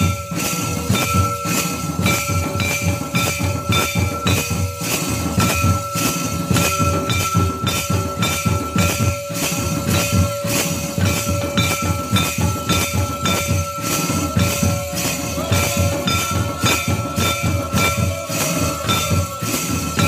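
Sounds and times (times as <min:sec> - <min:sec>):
barrel drum beating fast: 0:00.0 - 0:20.0
jingling bells: 0:00.0 - 0:20.0
steady ringing tone: 0:00.0 - 0:20.0.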